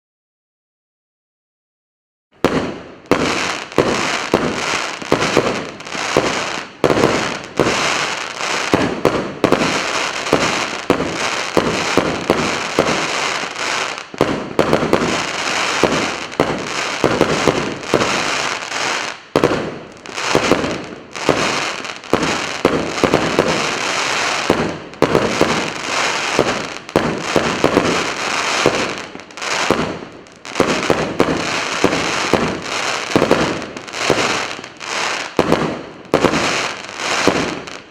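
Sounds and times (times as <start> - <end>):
fireworks launching and bursting: 2.4 - 37.9.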